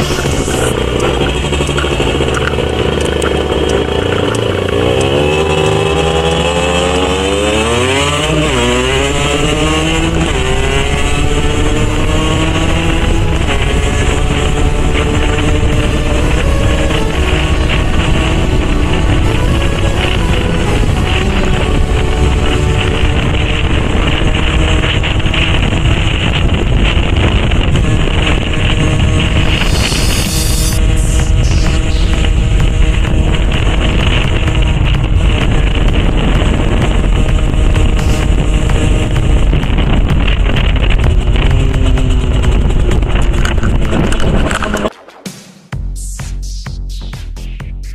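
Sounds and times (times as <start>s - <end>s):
two-stroke motorcycle engine running: 0.0s - 44.9s
wind noise on microphone: 0.0s - 45.0s.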